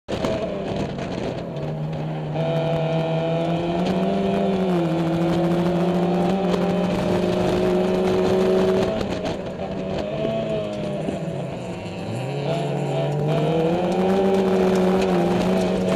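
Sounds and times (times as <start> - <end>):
race car engine at high revs: 0.1 - 15.9.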